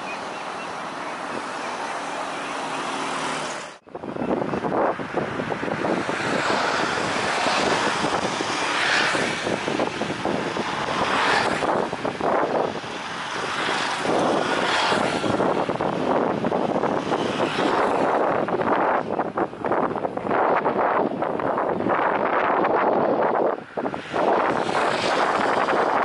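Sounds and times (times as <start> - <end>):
airliner jet engines rushing: 0.0 - 20.4, 23.0 - 26.0.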